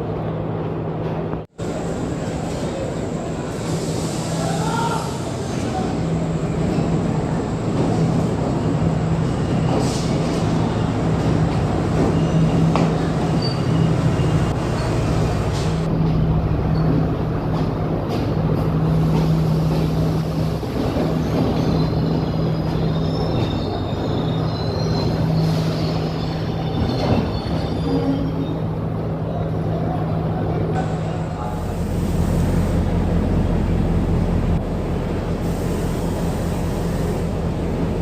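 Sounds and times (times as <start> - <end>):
diesel train humming: 0.0 - 38.0.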